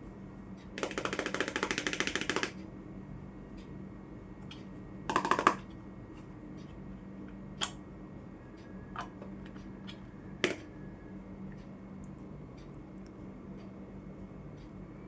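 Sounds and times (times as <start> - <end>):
low steady hum: 0.0 - 1.5, 2.1 - 15.0.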